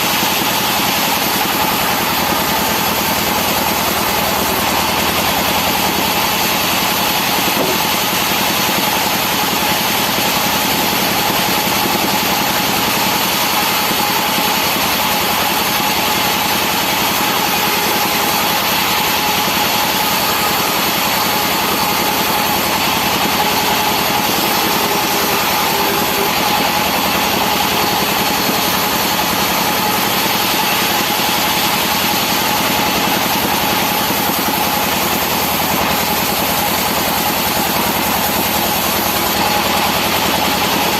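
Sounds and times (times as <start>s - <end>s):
engine-driven saw running: 0.0s - 40.9s.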